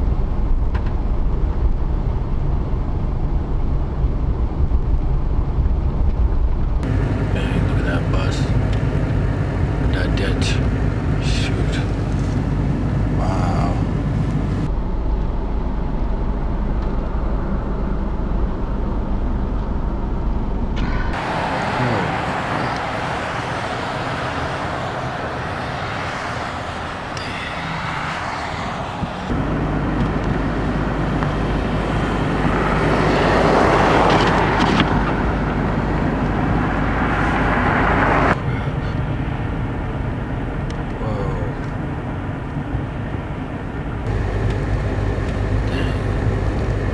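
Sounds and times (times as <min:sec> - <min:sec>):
vehicle and road noise: 0:00.0 - 0:46.9.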